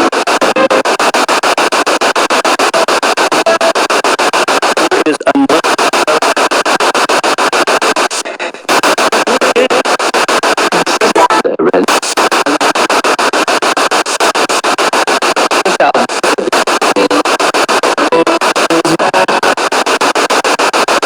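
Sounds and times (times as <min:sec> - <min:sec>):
pulsing radio static: 0:00.0 - 0:21.0.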